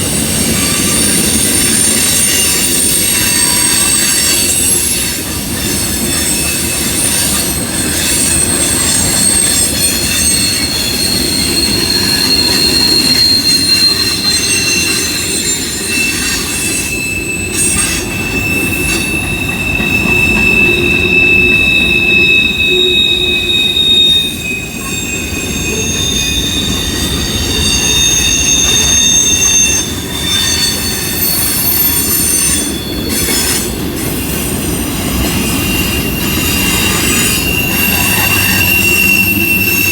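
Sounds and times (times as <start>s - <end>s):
steel wheel squeal: 0.0s - 39.9s
train wheels rumbling on rails: 0.0s - 39.9s.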